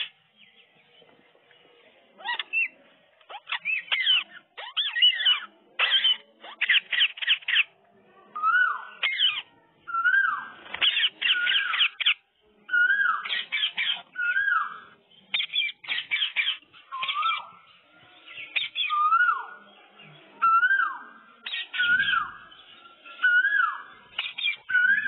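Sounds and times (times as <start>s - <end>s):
parakeets chattering and calling: 0.0s - 1.0s, 2.0s - 7.8s, 8.4s - 25.0s.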